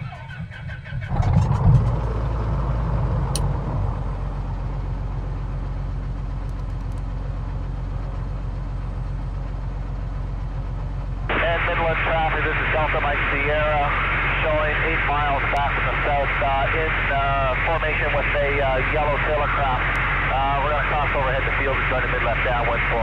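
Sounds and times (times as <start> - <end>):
airplane engine and propeller drone: 0.0 - 23.0.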